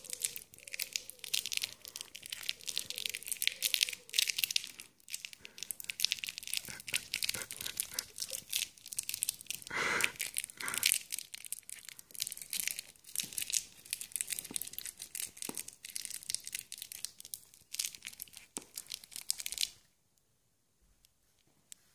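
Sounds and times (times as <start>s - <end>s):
plastic crinkling: 0.0s - 19.9s.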